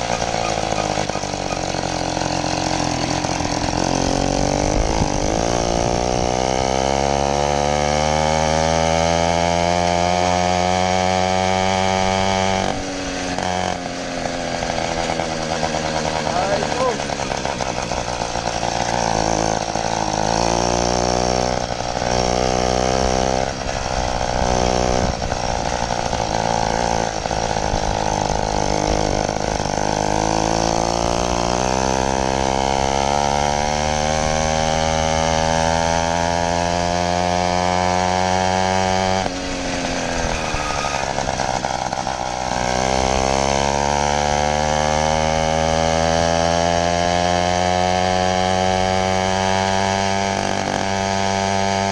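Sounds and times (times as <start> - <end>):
two-stroke engine buzzing: 0.0 - 51.9.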